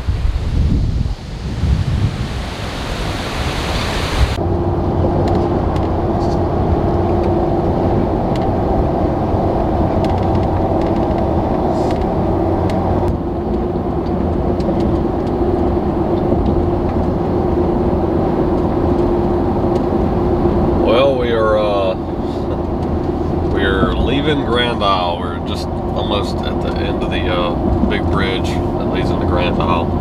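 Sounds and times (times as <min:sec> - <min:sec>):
truck engine and tyre rumble: 0:00.0 - 0:30.0.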